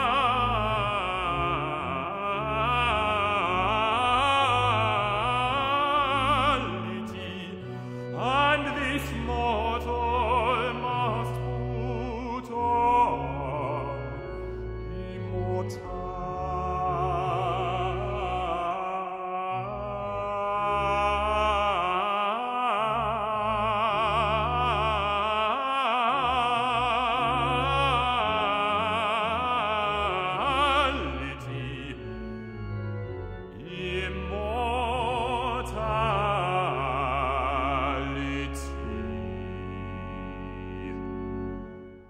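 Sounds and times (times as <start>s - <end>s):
bass-baritone singing with vibrato: 0.0s - 42.0s
organ chords: 0.0s - 42.0s.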